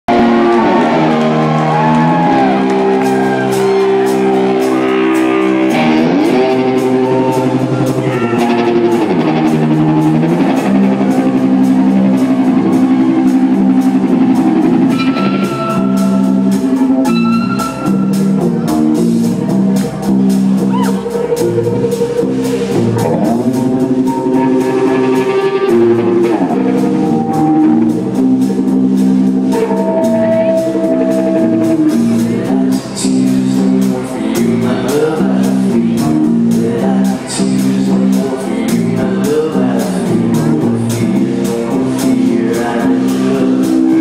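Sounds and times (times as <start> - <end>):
electric guitar chords sliding: 0.0 - 44.0
drums and cymbals beat: 0.1 - 44.0.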